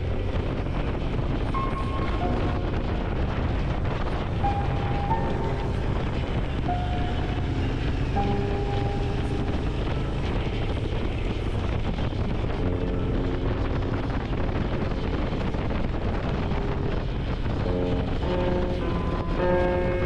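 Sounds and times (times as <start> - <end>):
wind rush on microphone: 0.0 - 20.0.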